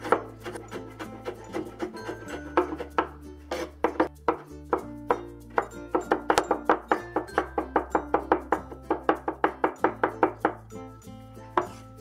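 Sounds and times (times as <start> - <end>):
cleaver chopping on wooden board: 0.0 - 10.6
background music: 0.0 - 12.0.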